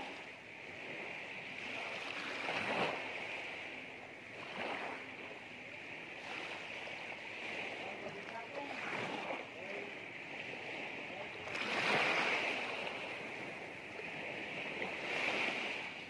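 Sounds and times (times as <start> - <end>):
small waves lapping on shore: 0.0 - 16.0.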